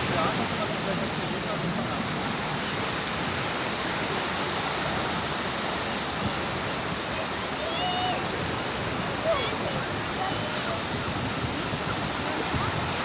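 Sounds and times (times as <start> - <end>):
sea surf rushing: 0.0 - 13.0.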